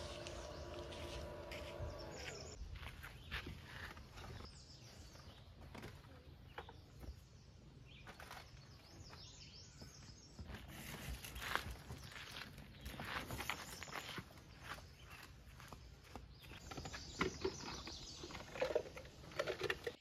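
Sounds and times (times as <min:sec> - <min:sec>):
faint songbird chirps: 0:00.0 - 0:19.1.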